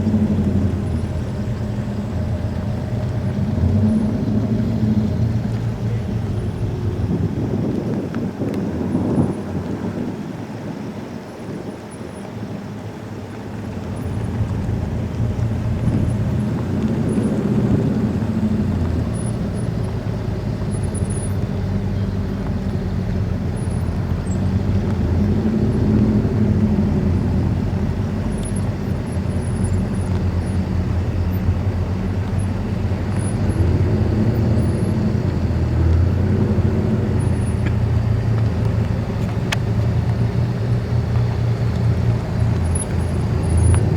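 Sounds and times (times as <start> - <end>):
car engine running: 0.0 - 10.8, 11.8 - 43.9.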